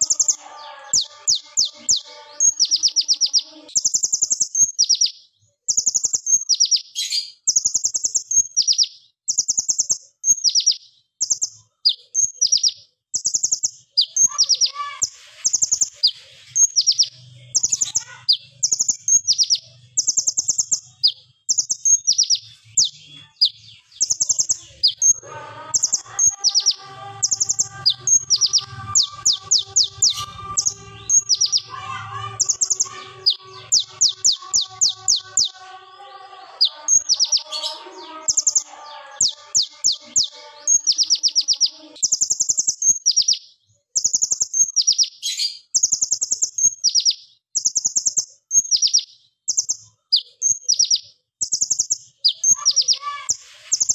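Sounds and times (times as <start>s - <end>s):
bird singing rapid high notes: 0.0s - 53.9s.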